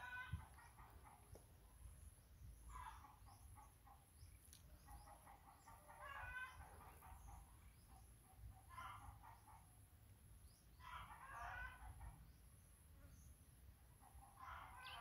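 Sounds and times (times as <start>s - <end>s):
distant chicken clucking: 0.0s - 12.6s, 13.8s - 15.0s.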